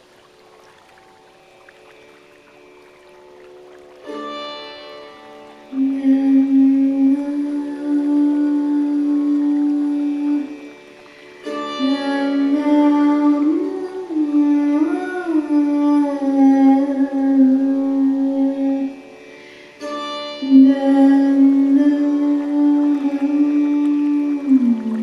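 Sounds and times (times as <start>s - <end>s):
sitar playing: 0.0s - 25.0s.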